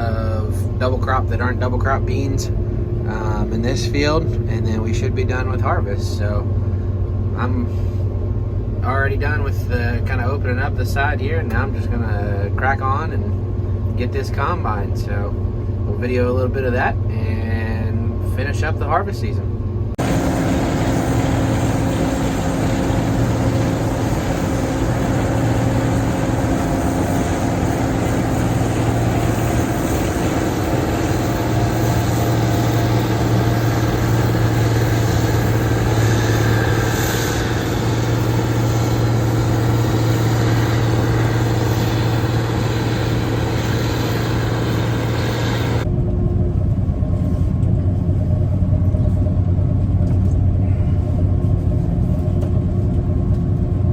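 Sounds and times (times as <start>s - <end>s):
combine harvester machinery hum: 0.0s - 53.9s.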